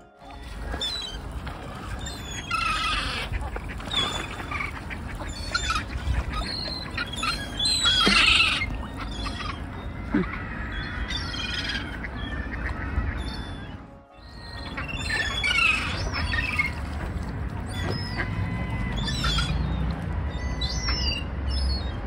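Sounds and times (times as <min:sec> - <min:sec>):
gulls and ducks calling: 0:00.0 - 0:22.0.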